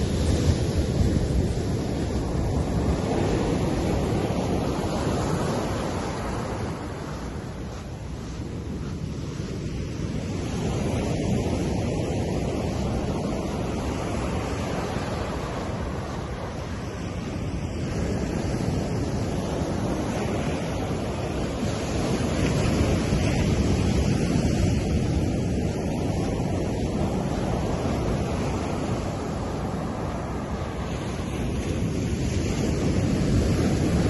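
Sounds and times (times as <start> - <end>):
ocean surf breaking on sand: 0.0 - 34.0.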